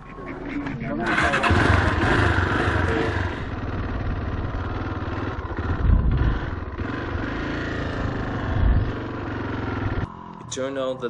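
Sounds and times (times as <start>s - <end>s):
dirt bike engine idling: 0.0s - 10.7s.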